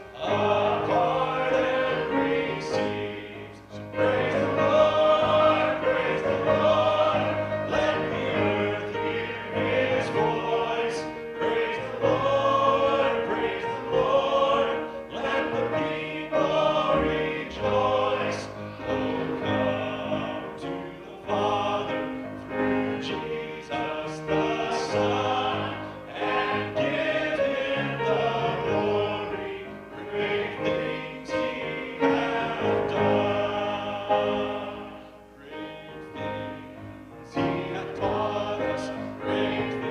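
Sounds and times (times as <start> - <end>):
vocal group singing in harmony: 0.0 - 39.9.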